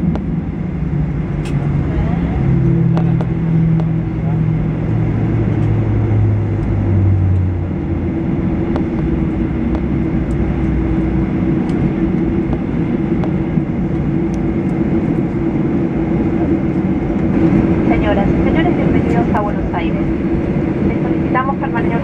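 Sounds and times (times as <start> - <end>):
aircraft cabin engine hum: 0.0 - 22.0
low engine drone: 0.0 - 22.0.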